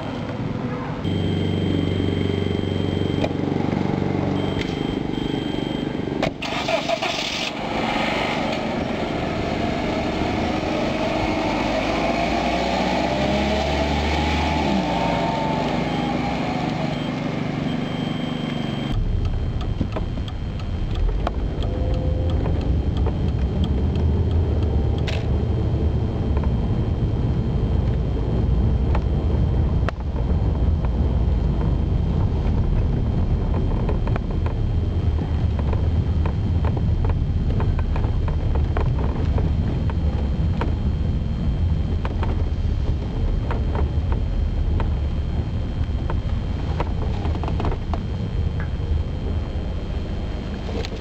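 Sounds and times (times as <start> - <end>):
car engine starting: 0.0 - 51.0
engine and road noise in cabin: 0.0 - 51.0.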